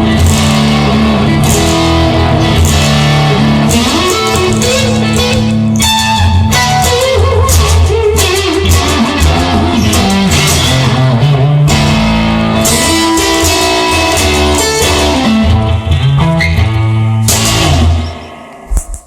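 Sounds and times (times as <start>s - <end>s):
bass guitar: 0.0s - 19.0s
electric guitar lead lines: 0.0s - 19.0s
steady rhythm: 0.2s - 19.0s.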